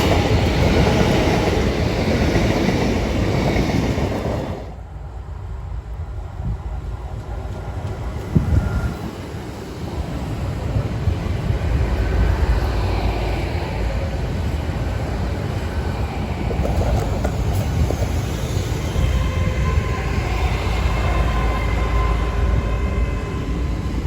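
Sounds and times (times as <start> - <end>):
train engines rumbling: 0.0 - 24.0
train wheels on track: 0.0 - 24.0.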